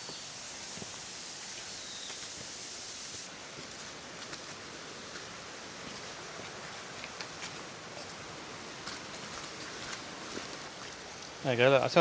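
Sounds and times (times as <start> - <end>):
footsteps on forest trail: 0.0 - 2.6, 3.3 - 11.5
steady outdoor hiss: 0.0 - 12.0.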